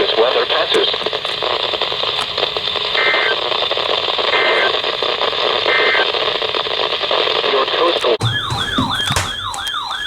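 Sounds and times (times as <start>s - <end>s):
radio static hiss: 0.0s - 8.2s.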